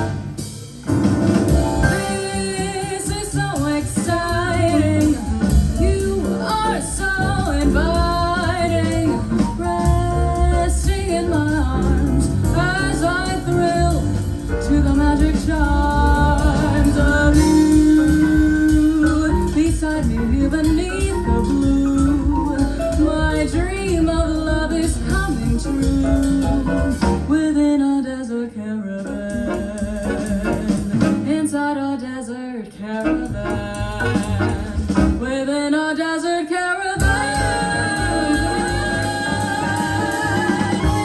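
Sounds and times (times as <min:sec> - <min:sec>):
song with band over speakers: 0:00.0 - 0:32.0, 0:32.7 - 0:41.0.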